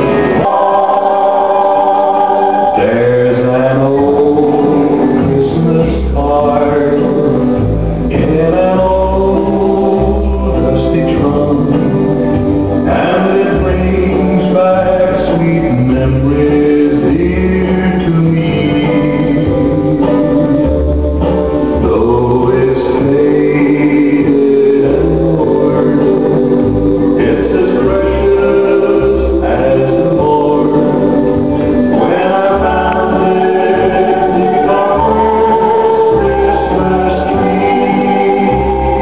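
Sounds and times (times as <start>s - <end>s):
bass line: 0.0s - 39.0s
guitar: 0.0s - 39.0s
person singing: 0.0s - 39.0s.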